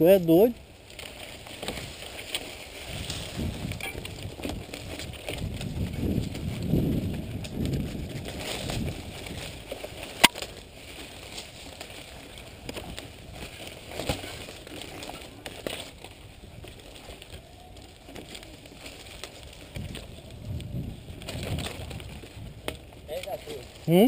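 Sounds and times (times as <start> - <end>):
bike tyres crunching on dirt: 0.0 - 24.0
bike rattling and knocking: 1.0 - 23.8.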